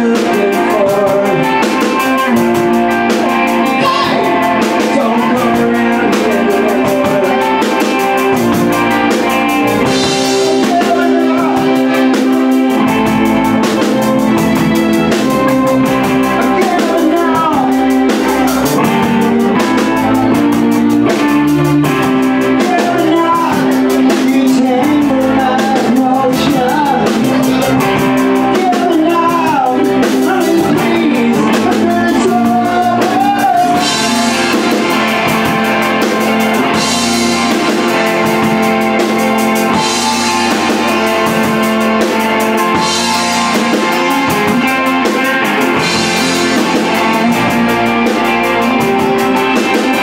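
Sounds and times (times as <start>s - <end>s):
drum kit: 0.0s - 50.0s
electric bass: 0.0s - 50.0s
person singing melody: 0.0s - 50.0s.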